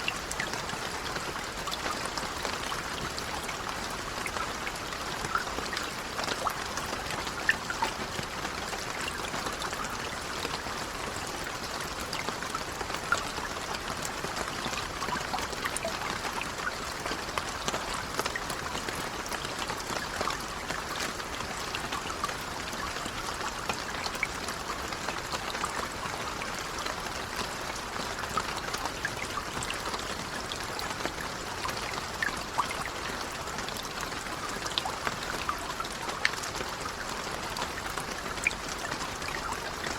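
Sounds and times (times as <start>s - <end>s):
gentle rain: 0.0s - 39.9s
water drips and patters: 0.0s - 39.9s.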